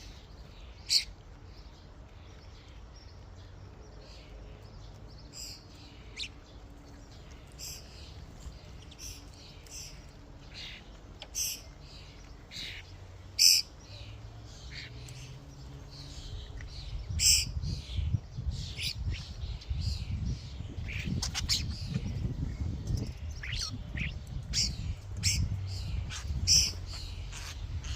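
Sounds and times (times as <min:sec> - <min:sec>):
birds chirping and squawking: 0:00.0 - 0:27.9.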